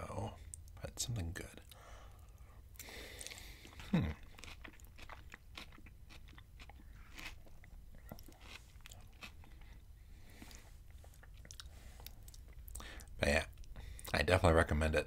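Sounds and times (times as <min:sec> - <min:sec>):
man chewing with wet smacks: 0:01.6 - 0:14.2.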